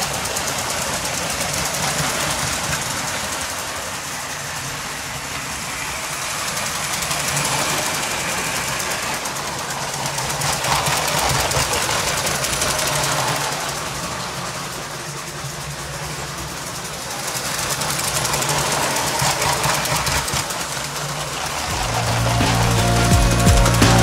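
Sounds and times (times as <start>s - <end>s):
toy train motor hum: 0.0s - 24.0s
toy train wheels rolling: 0.0s - 24.0s.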